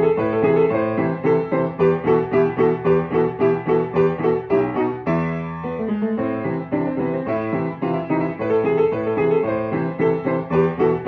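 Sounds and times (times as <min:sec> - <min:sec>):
piano playing: 0:00.0 - 0:11.0.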